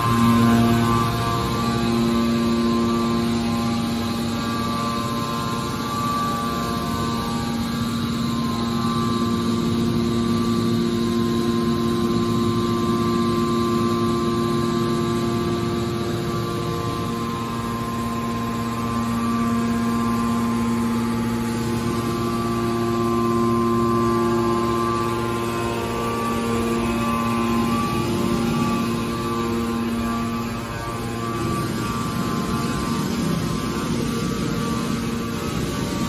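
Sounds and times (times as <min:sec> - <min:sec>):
hydraulic pump humming and whining: 0:00.0 - 0:36.0.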